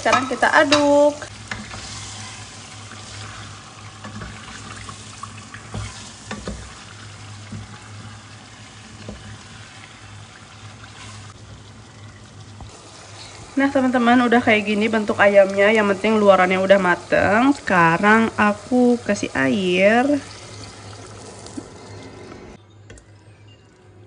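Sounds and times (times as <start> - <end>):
chicken sizzling in oil: 0.0 - 22.3.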